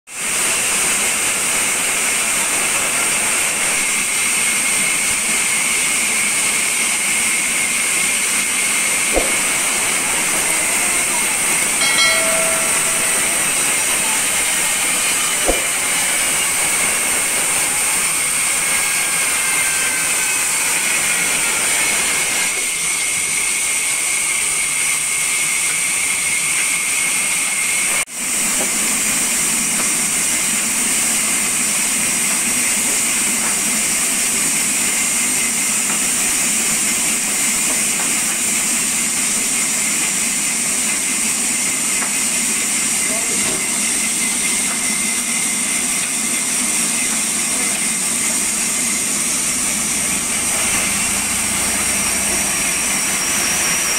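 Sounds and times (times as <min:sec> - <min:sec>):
band saw cutting wood: 0:00.2 - 0:53.9.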